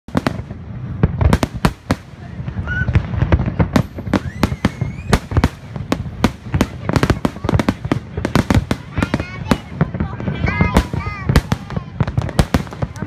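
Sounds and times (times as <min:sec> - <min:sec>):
fireworks bursting: 0:00.1 - 0:13.0.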